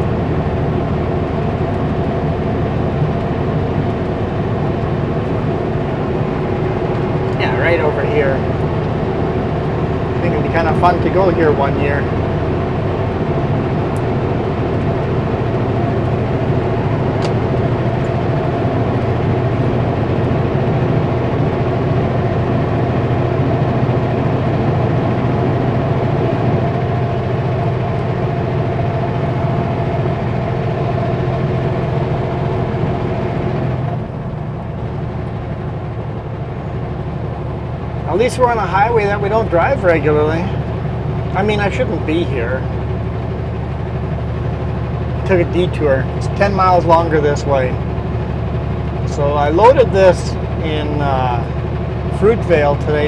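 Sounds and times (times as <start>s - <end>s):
road noise: 0.0s - 53.0s
truck diesel engine running: 0.0s - 53.0s.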